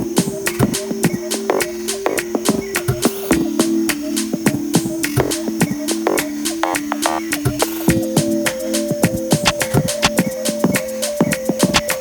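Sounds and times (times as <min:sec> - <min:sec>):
crisp percussion beat: 0:00.0 - 0:12.0.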